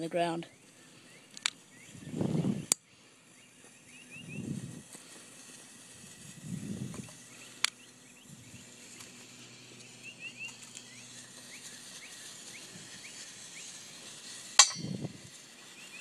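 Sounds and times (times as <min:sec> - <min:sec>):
birds chirping: 0:00.0 - 0:05.5, 0:07.0 - 0:16.0
faint outdoor background: 0:00.0 - 0:16.0.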